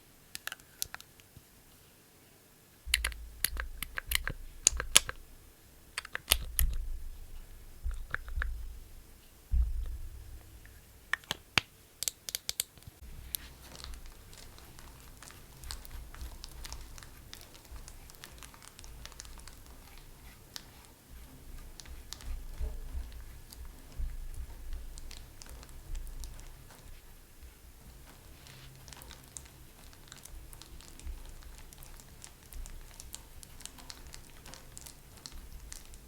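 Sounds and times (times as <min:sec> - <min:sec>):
soft rubbing and handling: 0:00.0 - 0:36.0
sharp clicks and taps: 0:00.3 - 0:01.4, 0:02.9 - 0:36.0.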